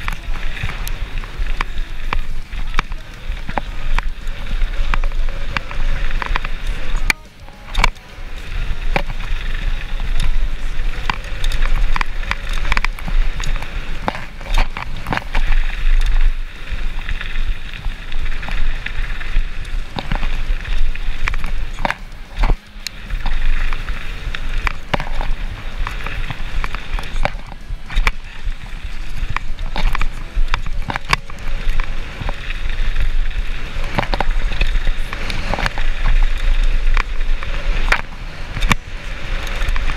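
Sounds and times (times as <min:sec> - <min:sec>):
bike chain and frame rattling: 0:00.0 - 0:39.9
bike tyres crunching over gravel: 0:00.0 - 0:39.9
wind rumble on microphone: 0:00.0 - 0:39.9.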